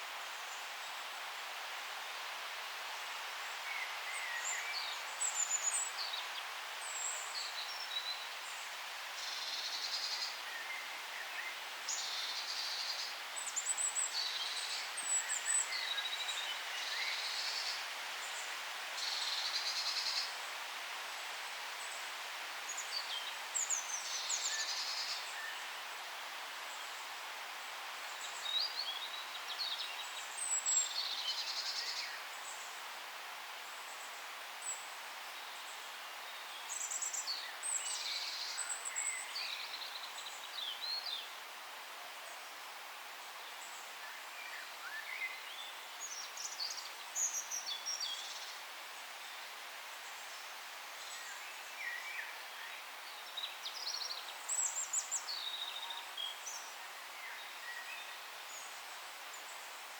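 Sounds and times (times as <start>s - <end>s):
background hiss: 0.0s - 59.9s
songbirds chirping: 0.0s - 59.9s.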